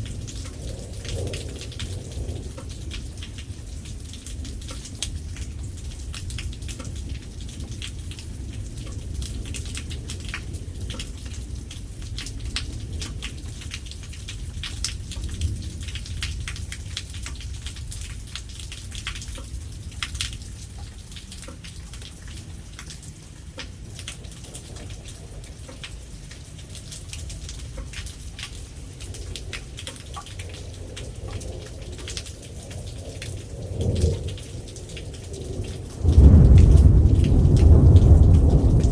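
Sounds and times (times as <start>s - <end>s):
raindrops striking hard surface: 0.0s - 38.9s.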